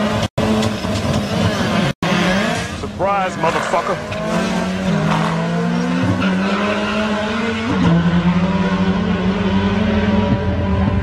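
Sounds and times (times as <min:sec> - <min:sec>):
drag car engine accelerating: 0:00.0 - 0:11.0.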